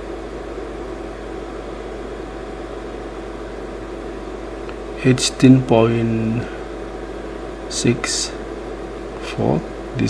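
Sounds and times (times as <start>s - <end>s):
equipment hum and hiss: 0.0s - 10.0s.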